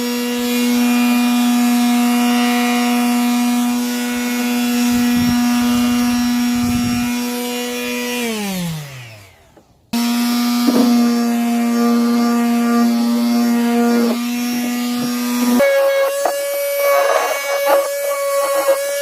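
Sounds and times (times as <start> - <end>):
power tool cutting wood: 0.0 - 19.0.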